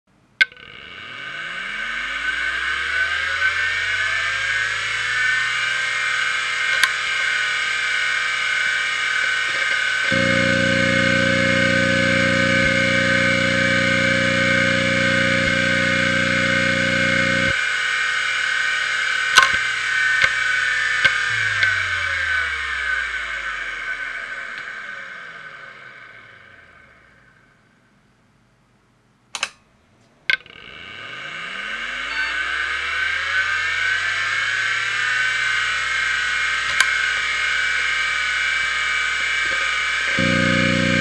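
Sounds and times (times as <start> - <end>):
hard drive whine: 0.3 - 28.5, 30.2 - 41.0
hard drive buzz: 0.4 - 27.3, 30.3 - 41.0.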